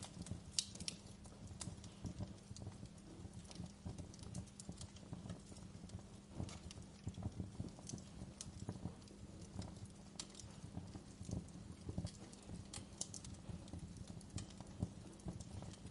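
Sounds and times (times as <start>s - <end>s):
low steady rumble: 0.0s - 15.9s
wood fire crackling and popping: 0.0s - 15.9s.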